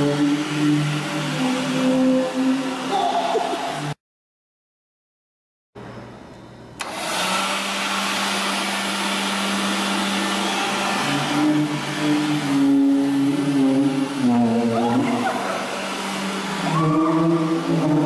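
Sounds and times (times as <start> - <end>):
leaf blower running: 0.0 - 4.0, 6.8 - 18.0.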